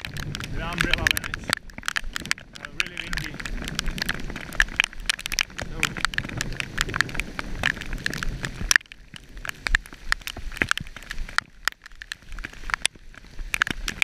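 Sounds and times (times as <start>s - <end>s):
raindrops ticking on camera: 0.0s - 14.0s.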